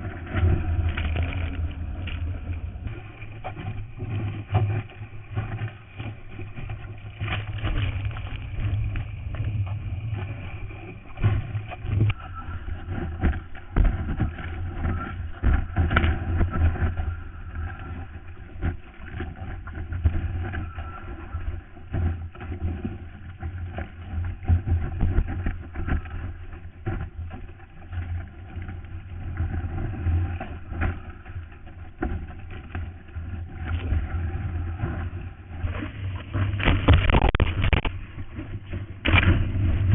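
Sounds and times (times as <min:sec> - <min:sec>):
muffled rush of water and wind: 0:00.0 - 0:39.9.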